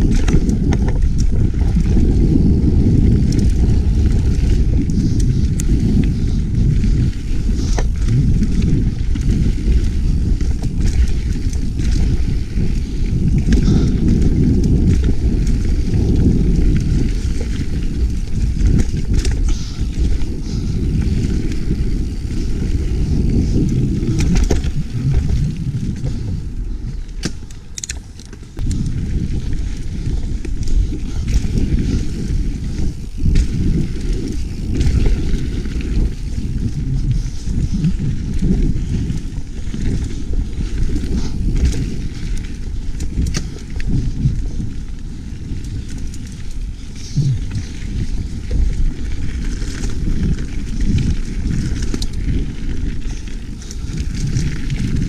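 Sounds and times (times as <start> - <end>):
bike clicks and rattles: 0.0 - 55.0
bike riding rumble: 0.0 - 55.0.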